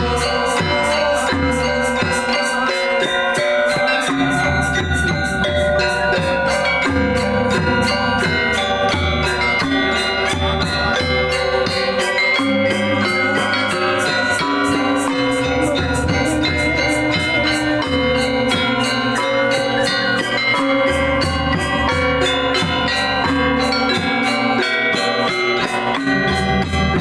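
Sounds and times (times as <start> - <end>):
gamelan metallophones struck: 0.0 - 27.0.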